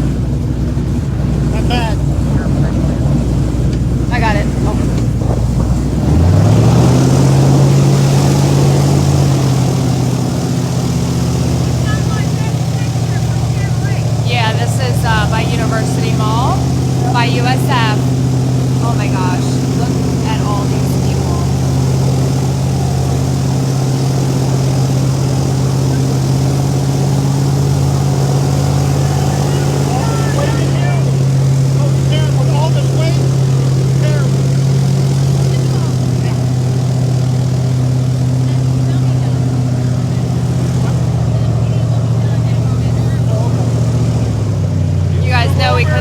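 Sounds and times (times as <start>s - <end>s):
boat engine revving: 0.0s - 46.0s.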